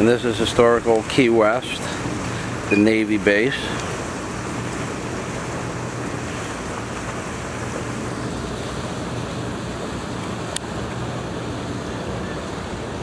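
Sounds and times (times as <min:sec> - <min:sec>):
water washing past hull: 0:00.0 - 0:13.0.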